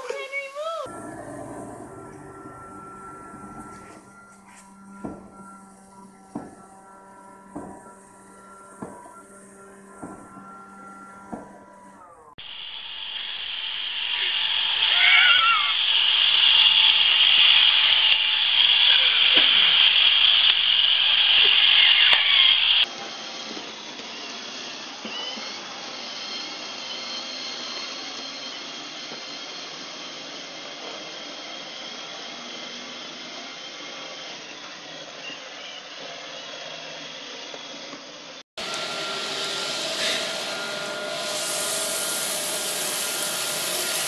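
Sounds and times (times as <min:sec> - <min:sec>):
robot vacuum whirring: 0:00.0 - 0:06.7, 0:07.8 - 0:44.0.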